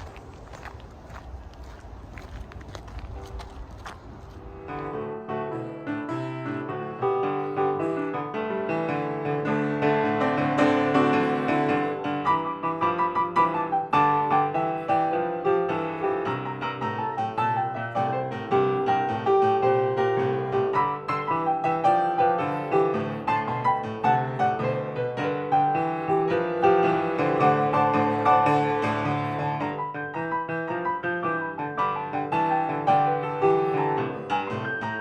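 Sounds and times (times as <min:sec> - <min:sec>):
solo piano music: 0:04.5 - 0:35.0.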